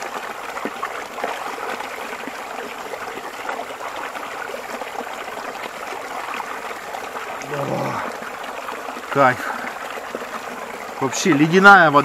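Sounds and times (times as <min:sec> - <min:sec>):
brook babbling: 0:00.0 - 0:12.0.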